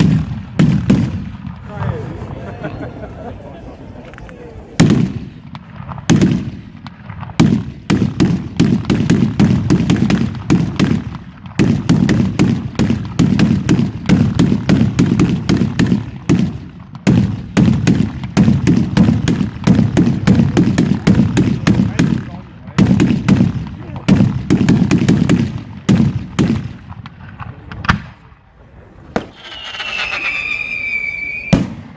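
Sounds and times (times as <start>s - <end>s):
fireworks bangs: 0.0s - 31.9s.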